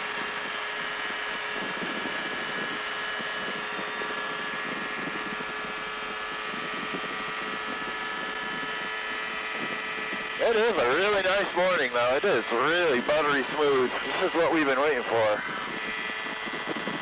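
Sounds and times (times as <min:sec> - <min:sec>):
ultralight aircraft engine drone: 0:00.0 - 0:17.0.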